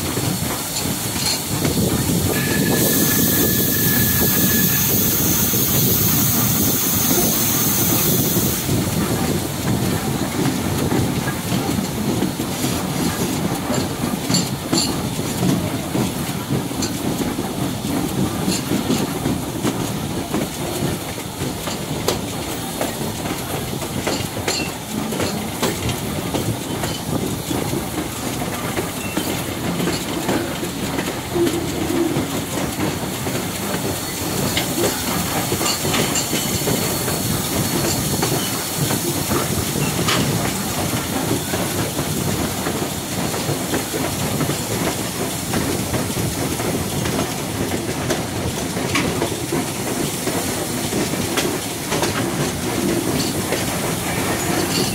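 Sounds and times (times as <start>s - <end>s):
train cars rumbling: 0.0s - 54.9s
wheels clicking over rail joints: 8.7s - 54.9s.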